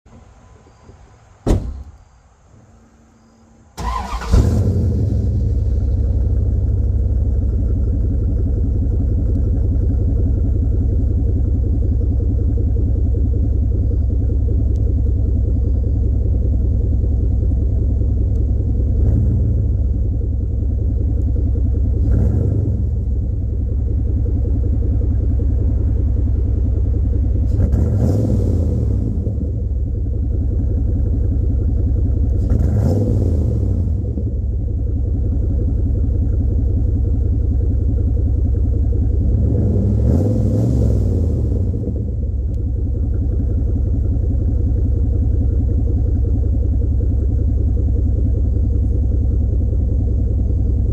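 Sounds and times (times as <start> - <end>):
car engine cranking and starting: 3.7 - 50.9
engine idling: 3.7 - 50.9.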